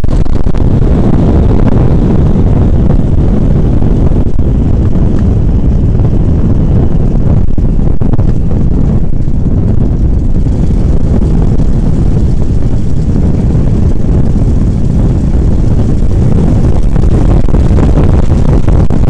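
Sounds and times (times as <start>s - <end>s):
biplane engine and propeller: 0.0s - 19.0s.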